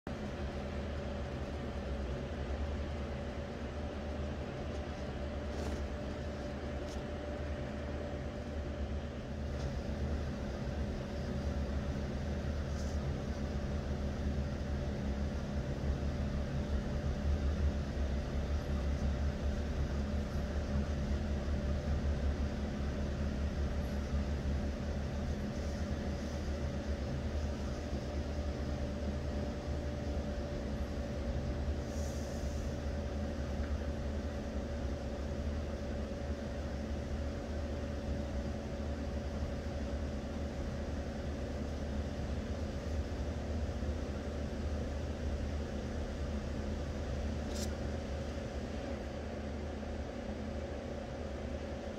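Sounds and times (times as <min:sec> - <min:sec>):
faint constant whine: 0:00.1 - 0:51.9
low mechanical hum: 0:00.1 - 0:51.9.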